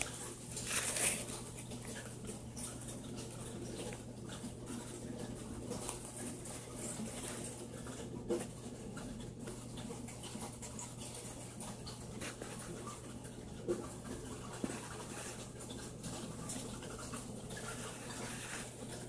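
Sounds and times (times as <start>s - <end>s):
soft ticks and rustles: 0.0s - 19.0s.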